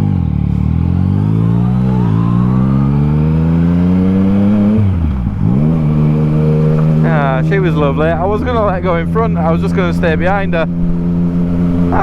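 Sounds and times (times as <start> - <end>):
motorcycle engine accelerating hard: 0.0 - 12.0.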